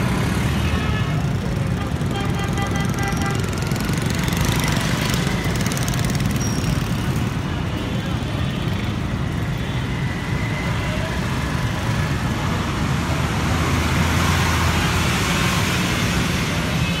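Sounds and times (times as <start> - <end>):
street traffic with trucks and buses: 0.0 - 17.0.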